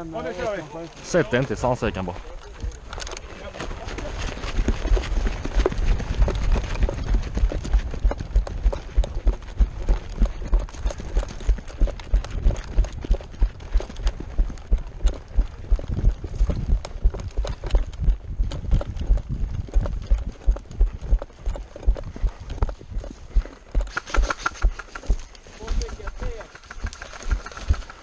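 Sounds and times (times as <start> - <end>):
running footsteps on grass: 0.0 - 28.0
running footsteps on gravel: 0.0 - 28.0.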